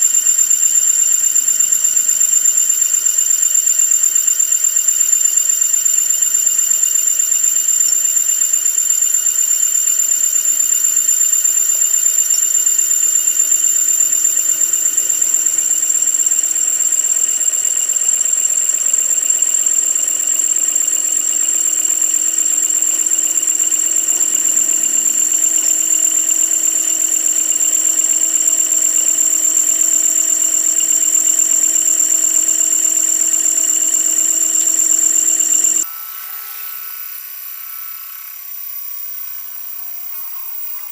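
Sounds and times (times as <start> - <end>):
high-pitched machinery whine: 0.0 - 40.9.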